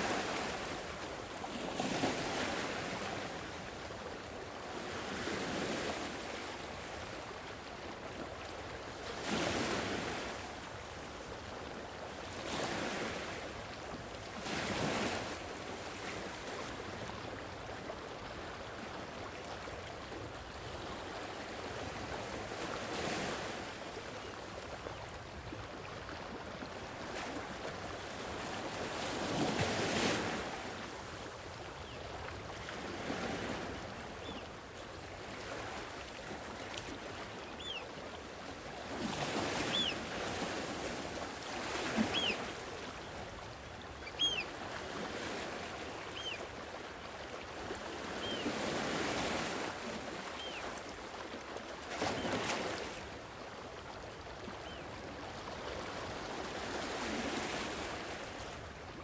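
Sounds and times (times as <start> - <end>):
sea waves washing on a shore: 0.0 - 11.5, 20.2 - 59.0.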